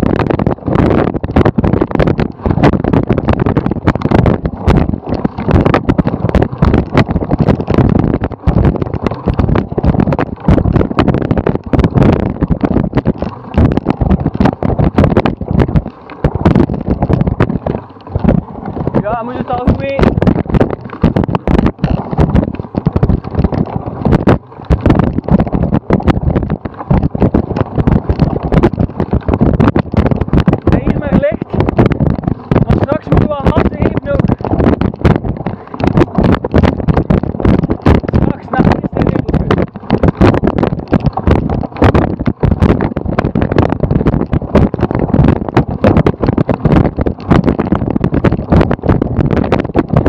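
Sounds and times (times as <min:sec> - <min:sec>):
bike knocking and rattling: 0:00.0 - 0:50.0
wind buffeting microphone: 0:00.0 - 0:50.0.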